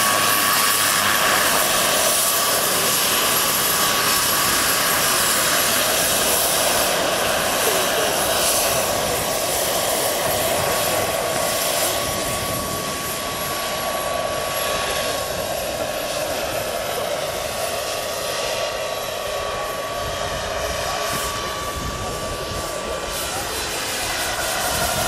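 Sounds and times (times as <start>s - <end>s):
turbine engine whine: 0.0s - 25.0s.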